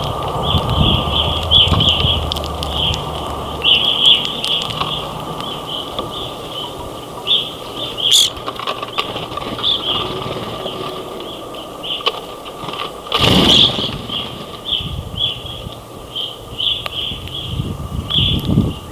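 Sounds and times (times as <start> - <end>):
birds chirping: 0.0 - 18.9.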